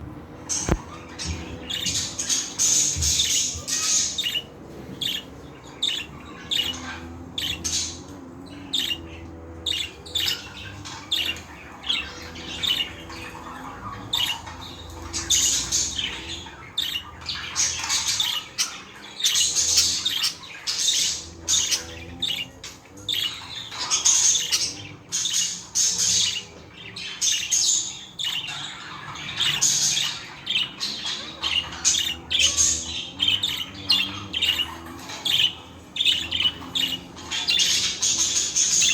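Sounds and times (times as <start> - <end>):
budgies chattering and chirping: 0.0 - 38.9.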